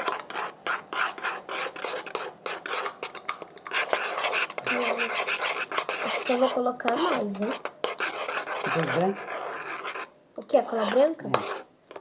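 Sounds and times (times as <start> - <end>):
slime stirred and scraped in bowl: 0.0 - 12.0.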